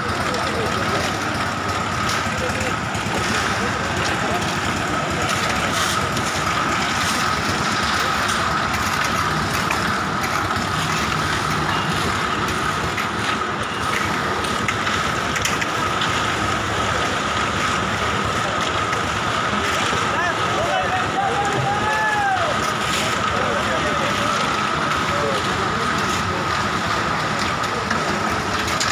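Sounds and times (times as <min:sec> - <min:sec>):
constant high whine: 0:00.0 - 0:28.9
construction machinery engine running: 0:00.0 - 0:28.9.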